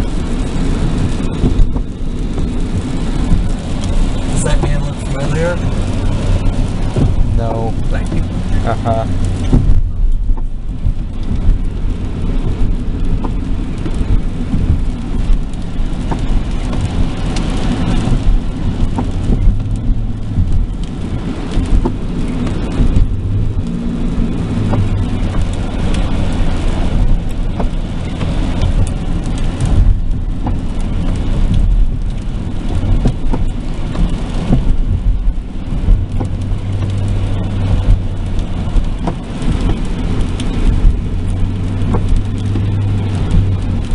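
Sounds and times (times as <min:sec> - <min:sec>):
car engine and tyres rumbling: 0:00.0 - 0:43.9
rain hissing on car: 0:00.0 - 0:43.9.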